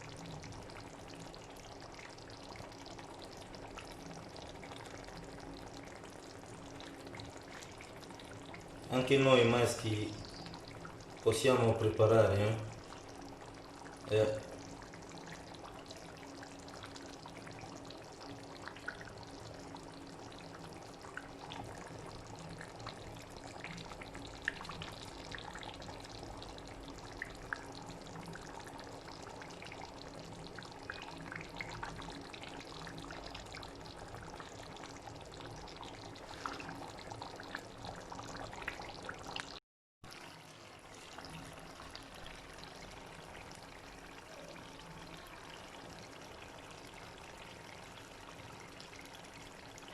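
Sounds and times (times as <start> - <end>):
pot of food boiling: 0.0 - 49.9.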